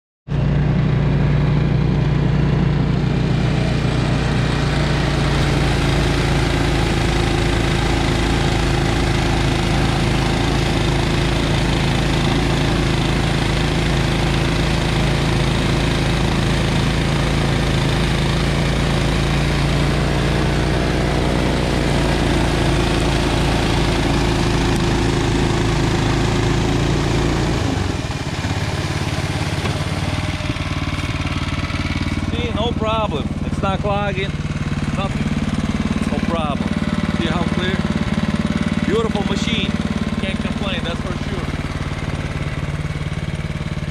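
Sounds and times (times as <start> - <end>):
snowblower engine running: 0.3 - 43.9
auger churning and throwing snow: 0.4 - 43.9.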